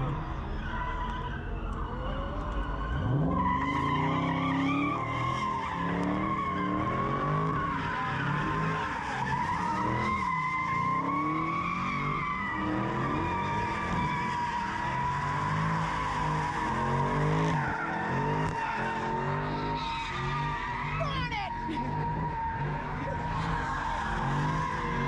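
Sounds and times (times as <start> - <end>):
car tyres squealing: 0.0 - 25.0
car engine revving hard: 2.7 - 25.0.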